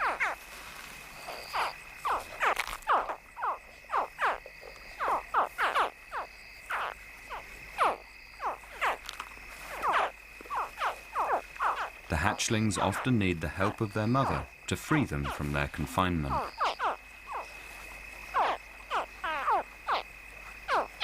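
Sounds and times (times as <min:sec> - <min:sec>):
crocodile hatchlings chirping: 0:01.2 - 0:09.0, 0:09.7 - 0:17.5, 0:18.3 - 0:20.1, 0:20.7 - 0:21.0.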